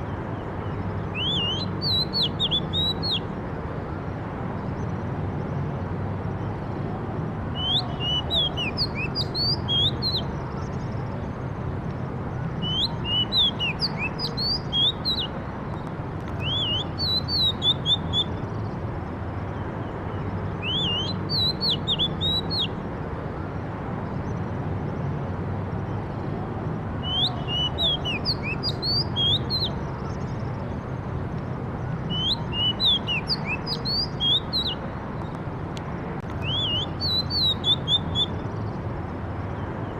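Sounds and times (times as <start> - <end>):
songbird singing: 0.0 - 3.4, 4.4 - 39.9.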